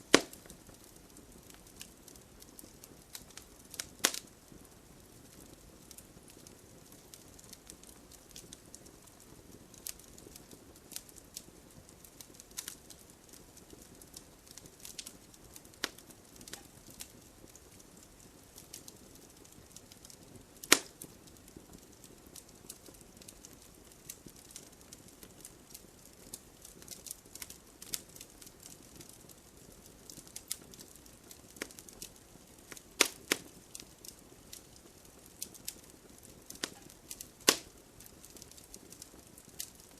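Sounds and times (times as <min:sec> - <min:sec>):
fire crackles and pops: 0:00.0 - 0:39.9
wood fire hissing: 0:00.0 - 0:39.9.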